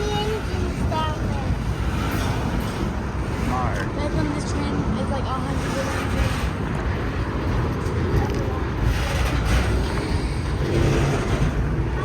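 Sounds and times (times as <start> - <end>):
freight train rolling past: 0.0 - 12.0
steel wheels rumbling on rail: 0.0 - 12.0.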